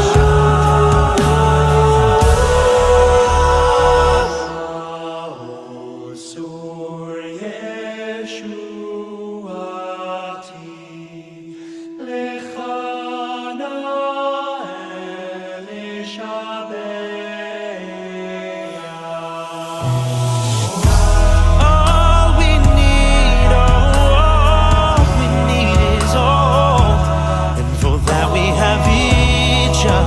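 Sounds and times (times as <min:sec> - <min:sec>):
male a cappella group singing: 0:00.0 - 0:30.0.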